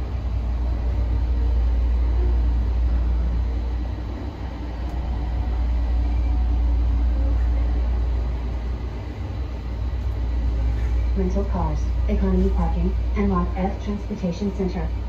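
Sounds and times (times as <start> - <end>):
faint tones: 0.0 - 15.0
train rumbling on guideway: 0.0 - 15.0.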